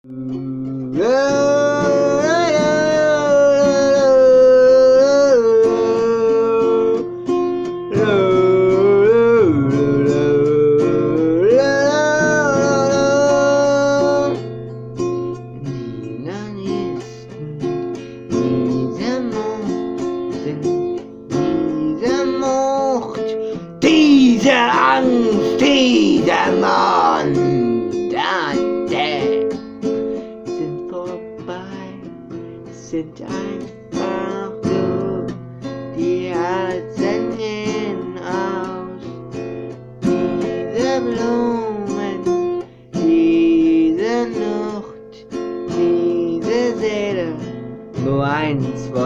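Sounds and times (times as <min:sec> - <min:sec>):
instrumental guitar music: 0:00.0 - 0:49.0.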